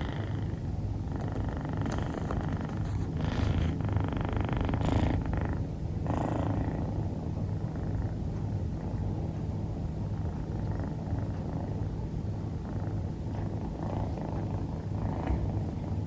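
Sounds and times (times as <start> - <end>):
kitten snoring: 0.0 - 8.6, 10.1 - 11.9, 12.5 - 16.0.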